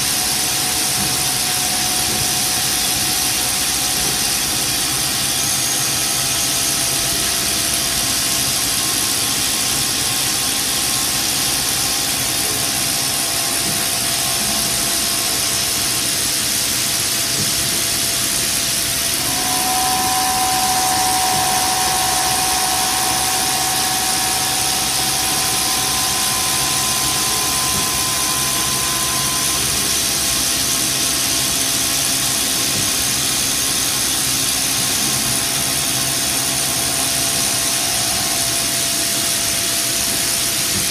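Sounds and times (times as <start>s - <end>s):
milling machine cutting: 0.0s - 40.8s
higher machine whine: 0.0s - 40.9s.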